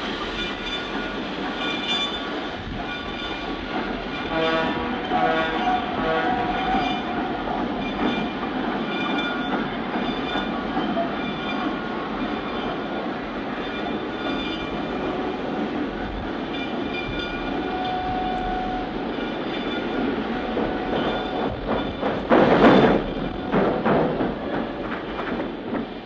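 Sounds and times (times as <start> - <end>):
diesel train rumble and hiss: 0.0 - 26.0.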